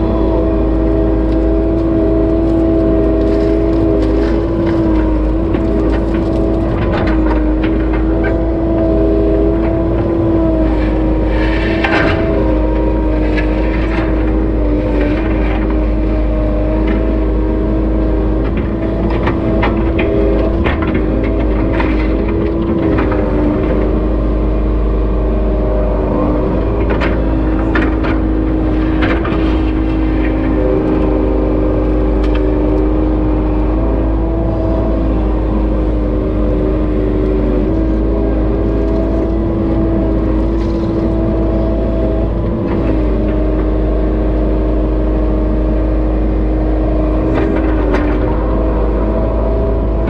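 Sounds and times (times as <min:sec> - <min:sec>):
excavator diesel engine running: 0:00.0 - 0:50.0
hydraulic whine: 0:00.0 - 0:50.0.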